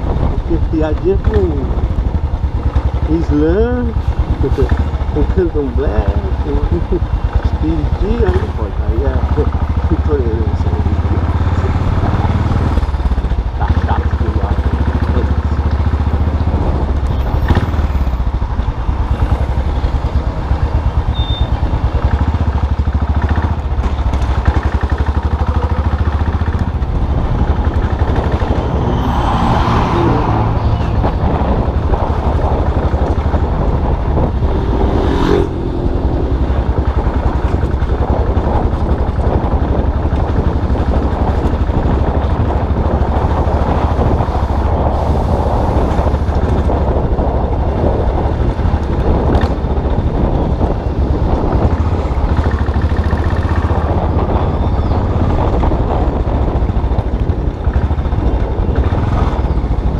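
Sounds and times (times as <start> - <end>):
motorcycle engine running: 0.0 - 59.9
road noise: 0.0 - 59.9.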